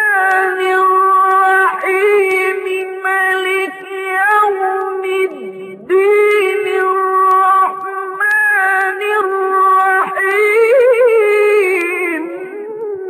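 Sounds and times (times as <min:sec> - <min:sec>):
man reciting in melodic chant: 0:00.0 - 0:13.0.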